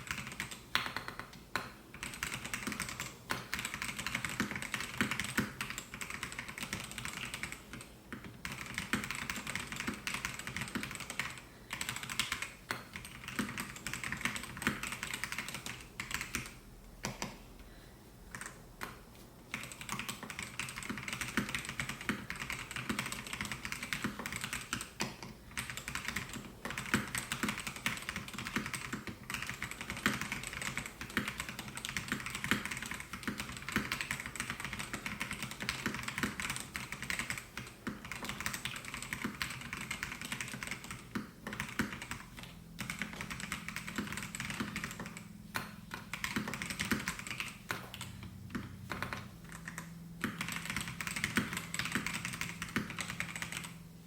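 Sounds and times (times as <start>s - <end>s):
mechanical keyboard typing: 0.0s - 17.4s, 18.3s - 53.8s.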